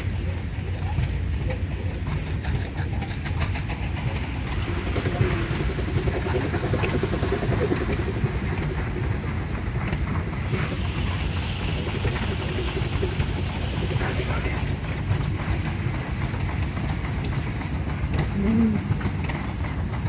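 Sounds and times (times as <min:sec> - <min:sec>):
steam engines rumbling: 0:00.0 - 0:20.0.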